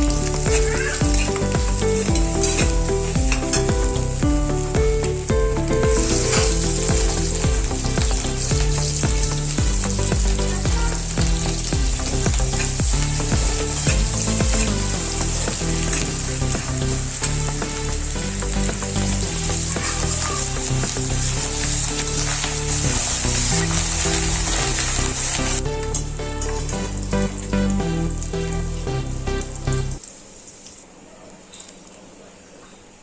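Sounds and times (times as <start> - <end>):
food sizzling in hot oil: 0.0 - 28.5
background music with bass line: 0.0 - 30.0.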